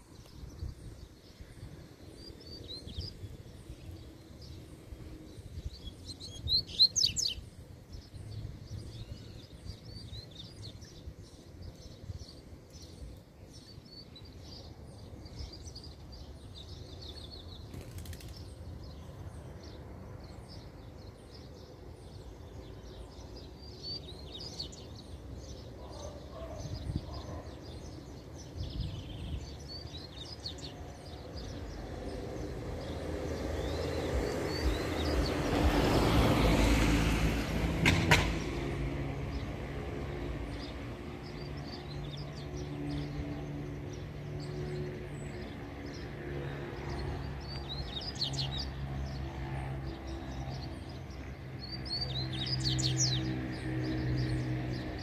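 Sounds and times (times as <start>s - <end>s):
birds chirping song: 0.0s - 55.0s.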